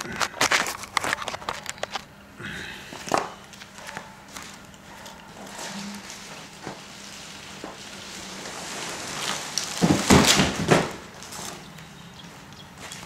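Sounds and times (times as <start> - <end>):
plastic wrapping crinkling: 0.0 - 2.1, 3.1 - 13.0.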